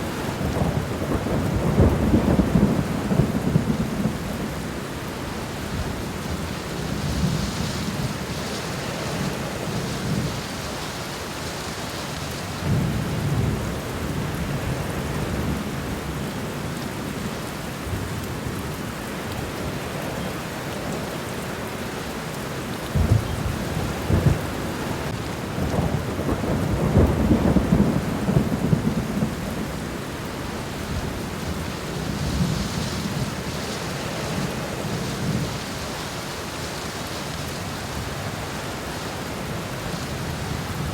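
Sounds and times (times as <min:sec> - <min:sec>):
rain falling on ground: 0:00.0 - 0:40.9.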